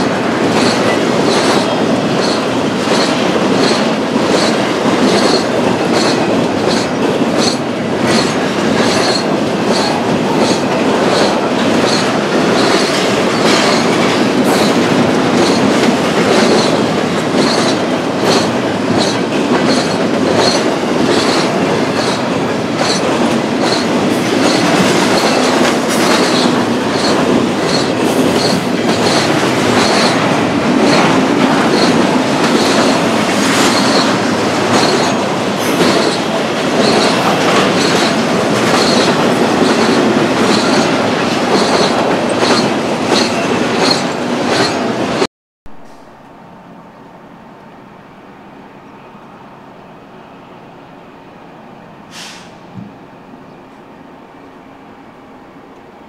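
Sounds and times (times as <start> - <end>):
wheels clacking over rail joints: 0.0 - 45.2
train cars rumbling: 0.0 - 56.0.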